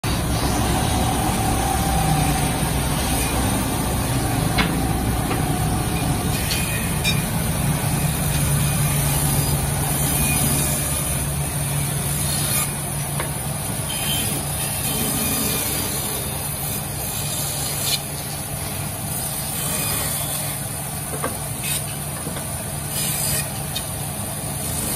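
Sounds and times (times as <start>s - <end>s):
bandsaw running: 0.0s - 24.9s.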